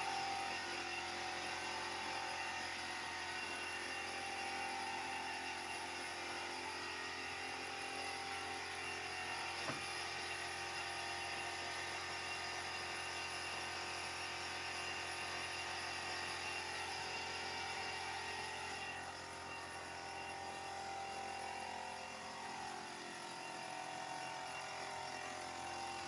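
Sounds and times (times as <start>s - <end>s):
workshop machinery whirring: 0.0s - 26.0s.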